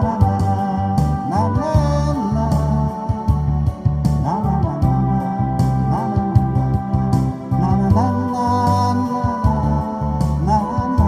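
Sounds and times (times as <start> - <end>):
amplified busking music: 0.0 - 11.0
heavy bass line: 0.0 - 11.0.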